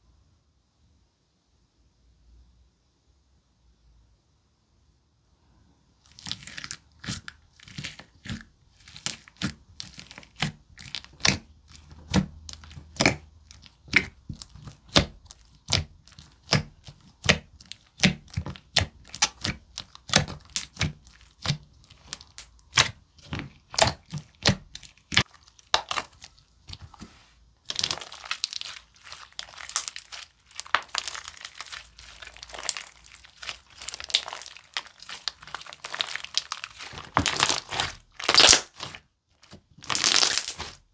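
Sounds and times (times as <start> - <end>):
slime squishing with wet clicks: 6.1 - 27.0, 27.6 - 40.8.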